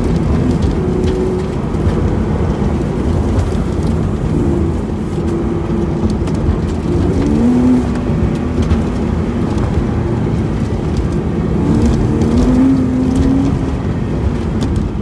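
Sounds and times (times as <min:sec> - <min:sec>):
car engine under load: 0:00.0 - 0:15.0
road noise: 0:00.0 - 0:15.0.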